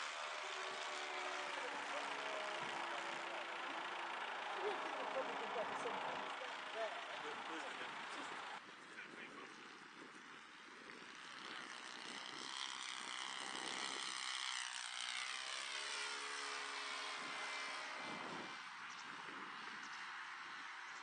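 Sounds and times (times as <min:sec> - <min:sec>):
model plane engine fly-by: 0:00.0 - 0:21.0.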